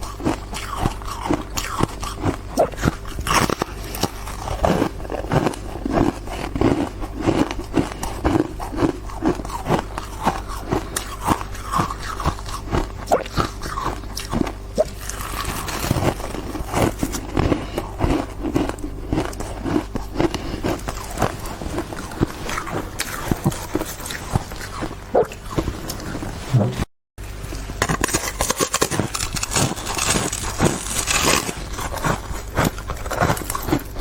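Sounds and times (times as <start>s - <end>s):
ice chewing crunches: 0.0s - 26.4s, 27.4s - 34.0s.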